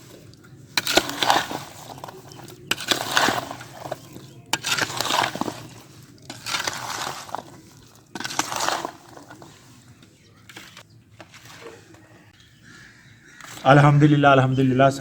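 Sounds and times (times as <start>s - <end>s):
mixing strokes in a vessel: 0.0s - 12.2s.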